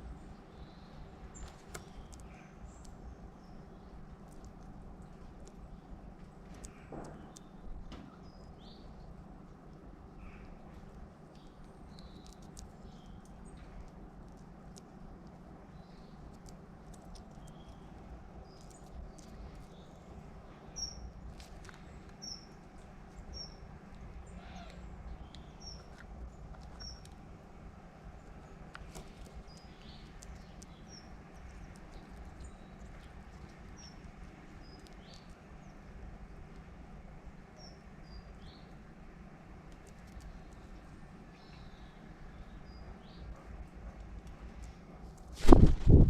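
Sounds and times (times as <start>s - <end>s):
low steady hum: 0.0s - 46.0s
small birds chirping: 0.0s - 46.0s.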